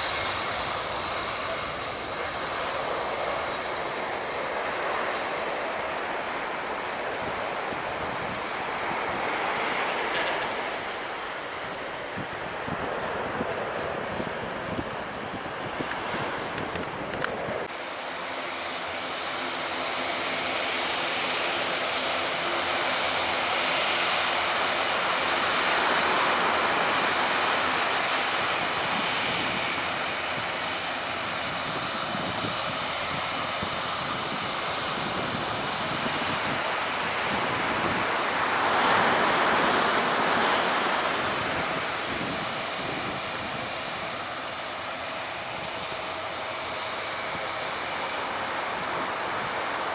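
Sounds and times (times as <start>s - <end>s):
wind on microphone: 0.0s - 17.7s, 26.8s - 49.9s
aircraft engine noise: 0.0s - 49.9s.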